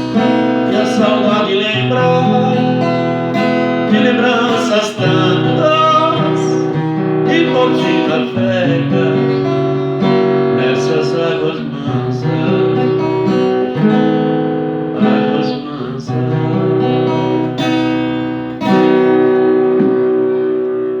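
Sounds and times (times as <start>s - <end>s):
plucked guitar-like chords: 0.0s - 21.0s.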